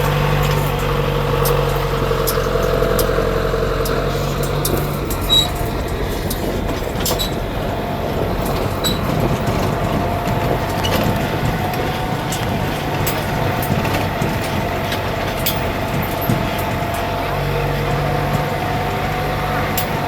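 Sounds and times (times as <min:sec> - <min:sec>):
tractor engine running: 0:00.0 - 0:20.0
wagon clicks and rattles: 0:00.0 - 0:20.0.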